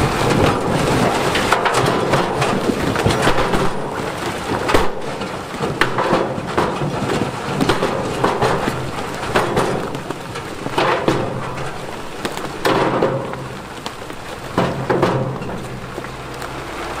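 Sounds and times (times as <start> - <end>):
big stones clattering: 0.0 - 17.0
heavy diesel engine running: 0.0 - 17.0.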